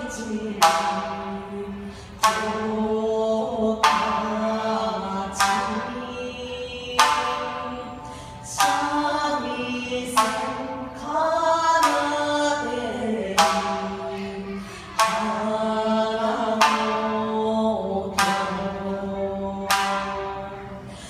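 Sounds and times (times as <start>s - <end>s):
shamisen plucking: 0.0s - 21.0s
women singing folk song: 0.0s - 21.0s.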